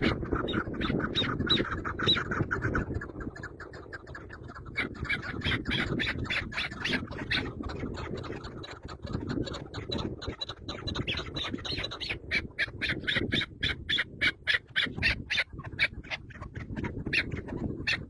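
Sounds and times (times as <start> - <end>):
birds squawking: 0.0 - 18.0.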